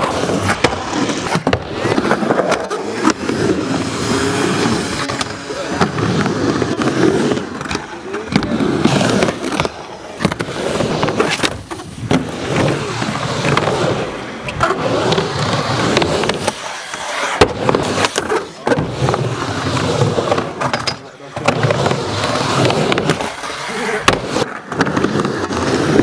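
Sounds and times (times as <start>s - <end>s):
skateboard knocks: 0.0s - 3.4s, 4.6s - 13.8s, 14.5s - 16.6s, 17.3s - 23.4s, 24.0s - 26.0s
skateboard wheels rolling on concrete: 0.0s - 26.0s.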